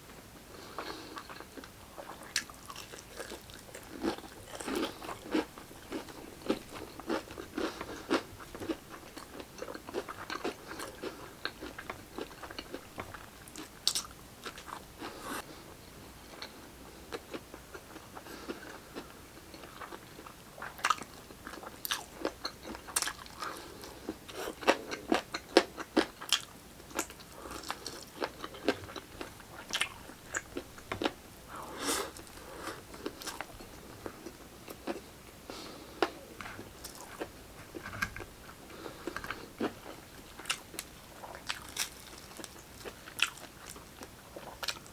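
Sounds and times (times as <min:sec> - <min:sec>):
chewing crispy fried chicken: 0:00.7 - 0:15.2, 0:16.4 - 0:37.4, 0:38.7 - 0:44.9.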